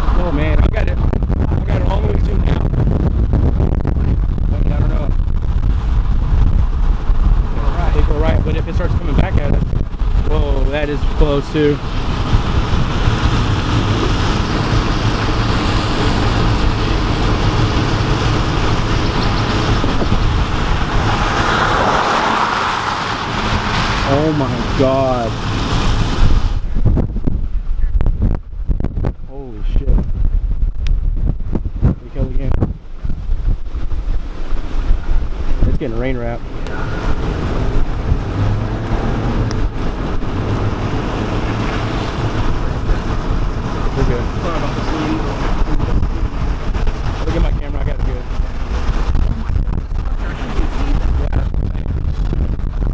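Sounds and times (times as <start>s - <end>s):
car road and wind noise: 0.0s - 52.9s.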